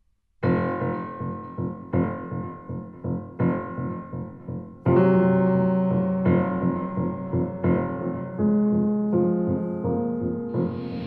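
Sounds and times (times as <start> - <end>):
slow piano chords: 0.4 - 11.0.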